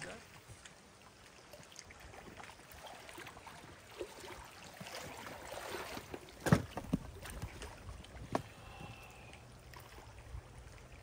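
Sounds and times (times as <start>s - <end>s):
paddle splashes: 0.0s - 11.0s
water sloshing: 0.0s - 11.0s.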